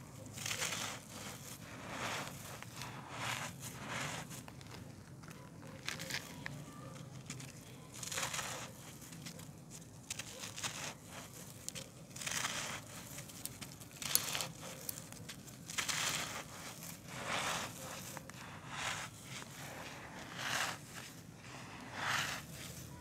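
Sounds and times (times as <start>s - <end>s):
grains pouring through fingers: 0.0s - 4.9s, 7.9s - 9.1s, 10.0s - 23.0s
hands crumbling dry dirt: 0.0s - 23.0s.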